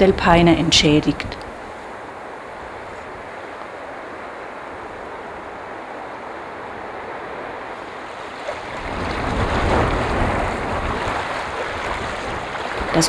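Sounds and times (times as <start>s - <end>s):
wind buffeting microphone: 0.0s - 13.0s
wind rushing: 0.1s - 13.0s.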